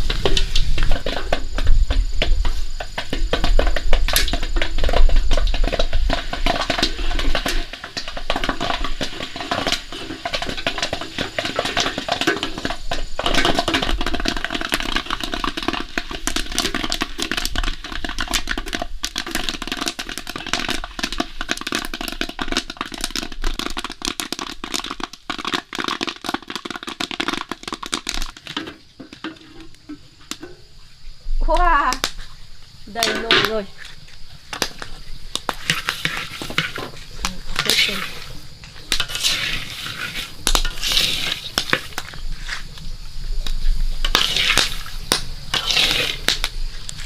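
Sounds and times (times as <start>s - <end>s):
popcorn popping in a pot: 0.0s - 30.5s, 31.4s - 32.2s, 32.9s - 33.9s, 34.5s - 42.2s, 43.0s - 47.0s.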